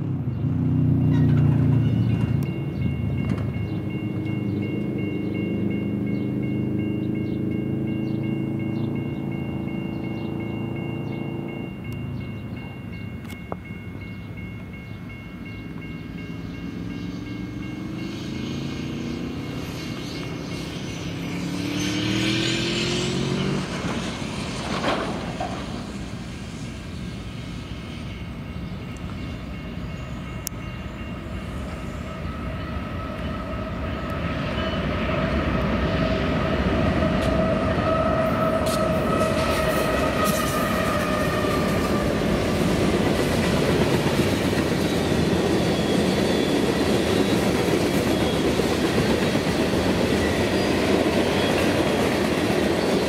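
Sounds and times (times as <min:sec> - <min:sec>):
diesel locomotive engines: 0:00.0 - 0:53.0.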